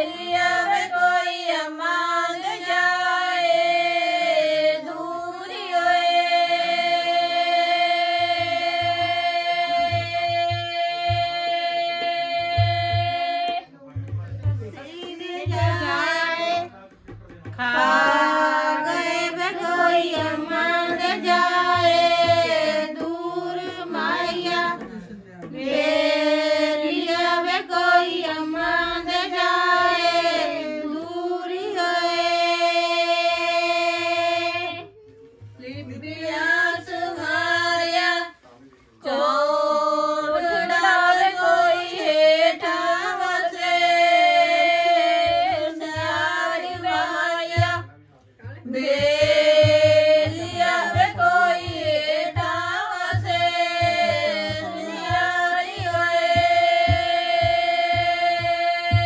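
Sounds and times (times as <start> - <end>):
women singing a folk song: 0.0 - 13.7, 14.5 - 16.7, 17.5 - 59.0.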